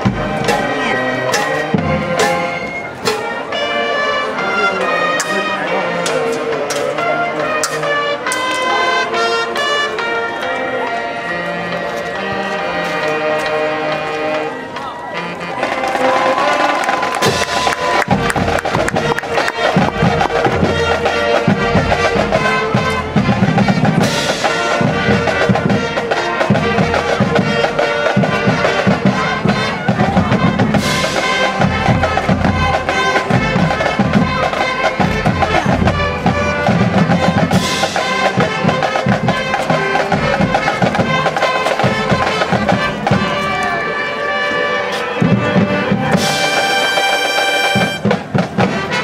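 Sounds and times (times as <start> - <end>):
marching band playing: 0.0 - 49.0.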